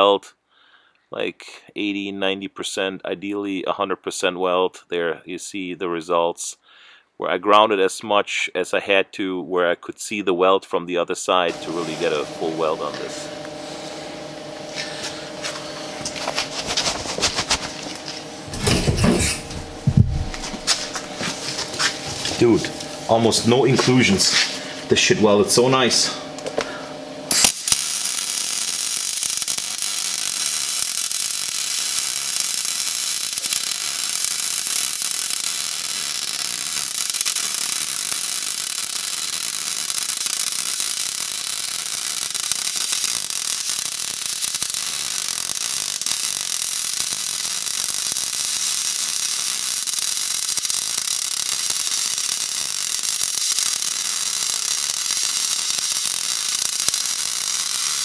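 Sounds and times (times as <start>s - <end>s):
welding arc crackling hiss: 11.5s - 58.0s.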